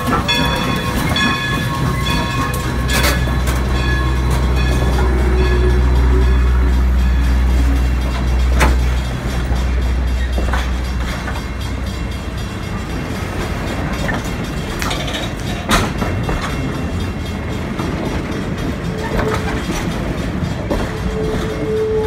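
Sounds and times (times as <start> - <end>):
train wheels rumbling on rails: 0.0 - 22.0
wheels clacking on rail joints: 0.0 - 22.0.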